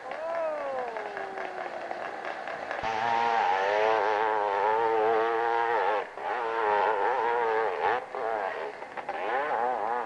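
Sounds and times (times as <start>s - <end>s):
motorcycle engine running hard: 0.8s - 10.0s.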